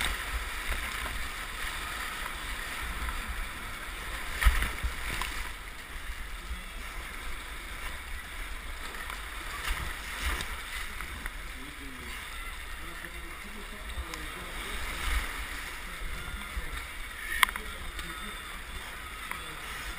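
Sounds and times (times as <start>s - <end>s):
paddle strokes splashing: 0.0s - 19.9s
whitewater rapids rushing: 0.0s - 19.9s.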